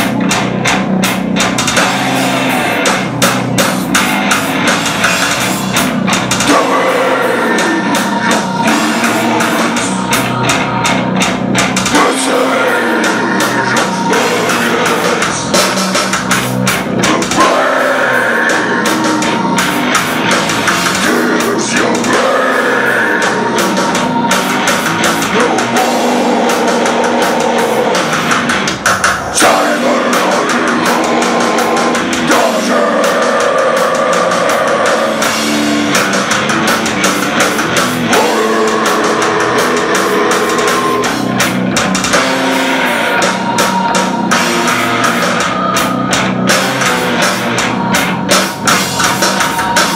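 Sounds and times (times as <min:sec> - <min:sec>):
bass guitar: 0:00.0 - 0:49.9
drum kit: 0:00.0 - 0:49.9
electric guitars: 0:00.0 - 0:49.9.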